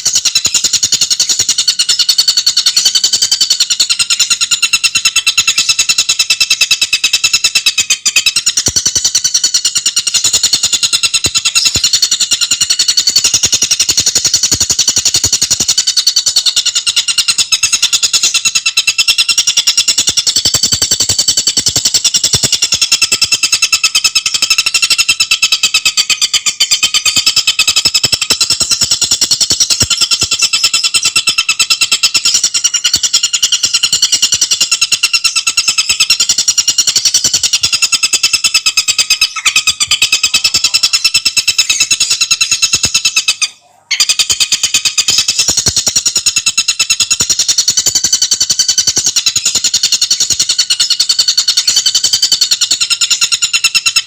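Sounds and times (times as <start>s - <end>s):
bird chattering song: 0.0s - 54.0s.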